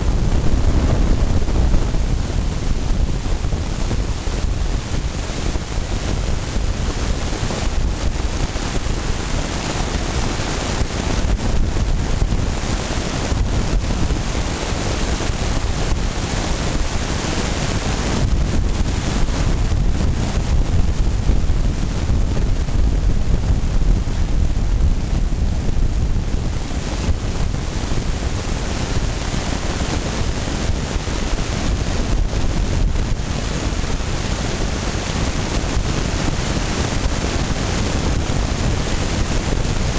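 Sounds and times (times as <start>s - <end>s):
car wind and road noise: 0.0s - 39.9s.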